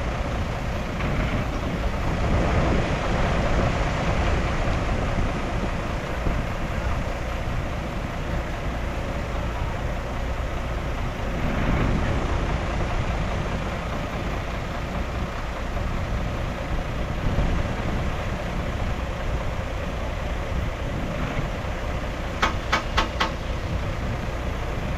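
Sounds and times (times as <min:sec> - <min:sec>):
heavy diesel engine running: 0:00.0 - 0:24.9.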